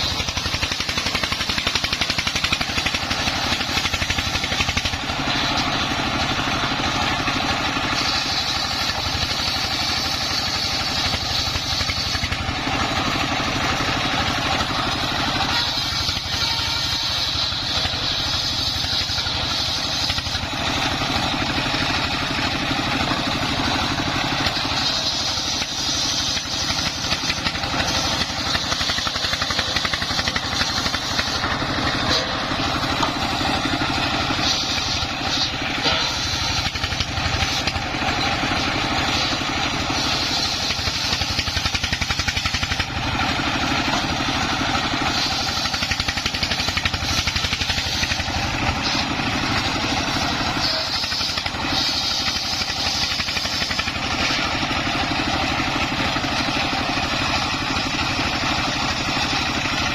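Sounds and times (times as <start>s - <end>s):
circular saw cutting wood: 0.0s - 59.9s
diesel engine chugging: 0.0s - 59.9s.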